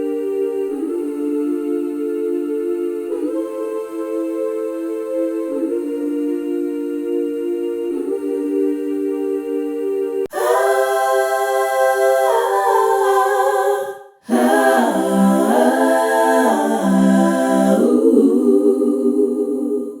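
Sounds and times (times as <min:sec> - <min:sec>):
wordless choir-like music: 0:00.0 - 0:20.0.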